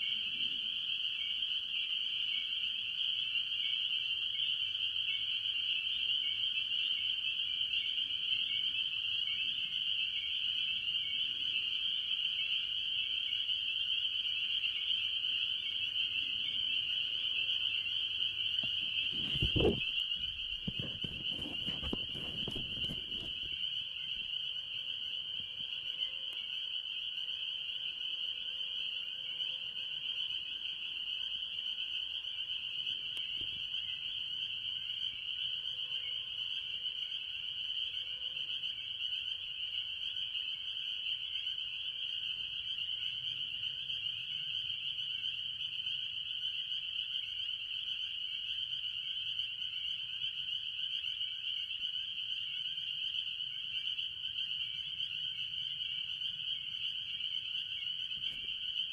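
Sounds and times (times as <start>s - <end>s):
chorus of peeping frogs: 0.0s - 58.9s.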